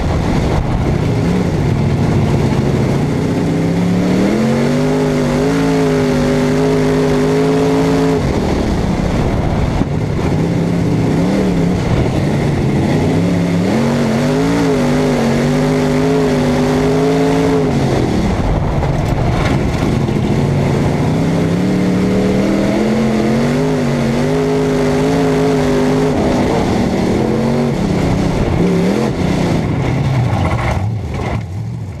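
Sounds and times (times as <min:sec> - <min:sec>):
race car engine revving: 0:00.0 - 0:32.0
wind and track noise: 0:00.0 - 0:32.0.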